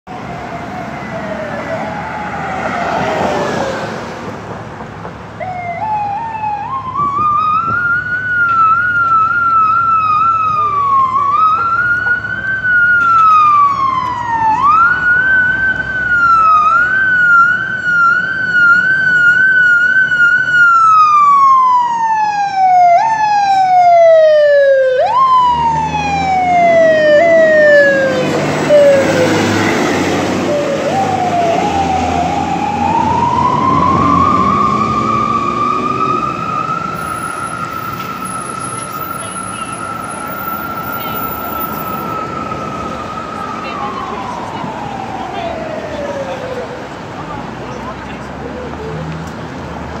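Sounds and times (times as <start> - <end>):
fire engine siren wailing: 0.1 - 4.3, 5.3 - 47.4
truck engine rushing past: 0.1 - 50.0.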